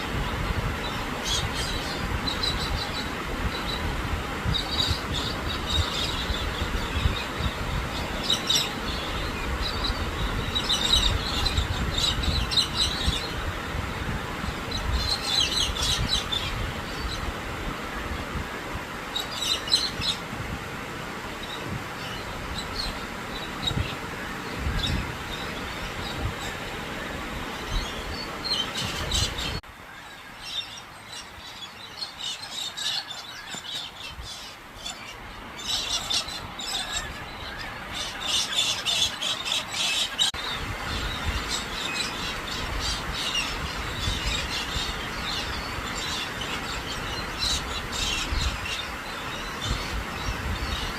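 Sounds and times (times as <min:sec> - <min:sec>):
birds calling: 0:00.0 - 0:50.9
rain hiss: 0:00.0 - 0:50.9.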